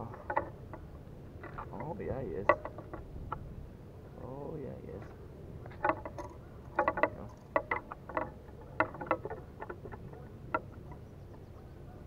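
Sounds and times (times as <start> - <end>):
sharp clicks and rattles: 0.0 - 3.5, 5.0 - 11.9.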